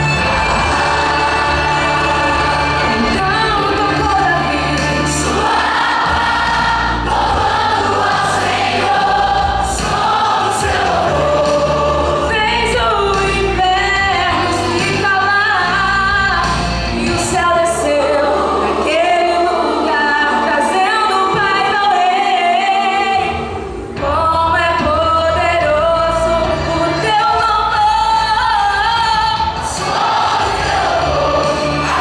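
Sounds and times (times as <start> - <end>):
choir singing gospel: 0.0 - 23.8, 27.0 - 32.0.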